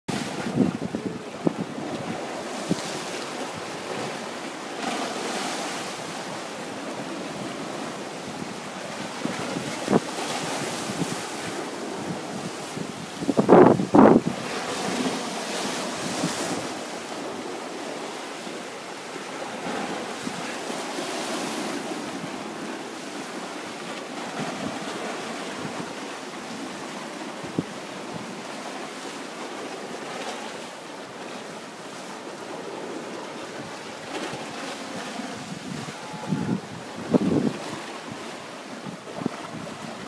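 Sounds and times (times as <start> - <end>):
wind on microphone: 0.1 - 28.9, 31.9 - 40.0
surf against rocky shore: 0.1 - 40.0.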